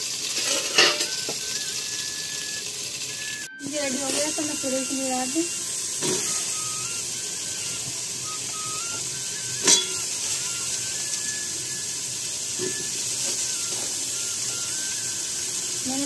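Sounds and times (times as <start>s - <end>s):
spices sizzling in a pot: 0.0s - 16.0s.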